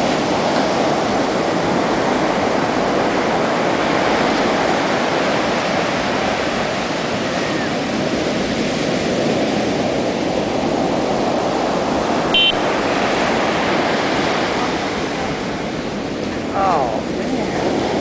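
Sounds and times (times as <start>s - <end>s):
ocean waves crashing on beach: 0.0s - 18.0s.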